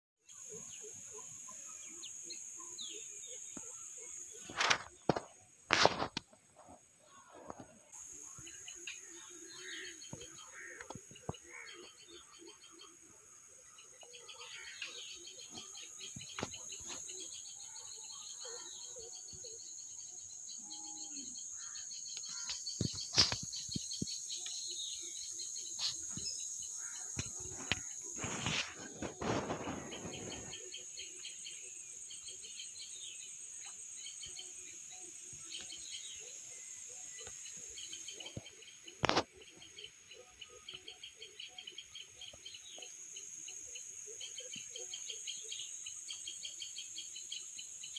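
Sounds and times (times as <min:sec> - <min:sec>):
crickets chirping: 0:07.9 - 0:47.9
bird chirps: 0:08.0 - 0:47.9.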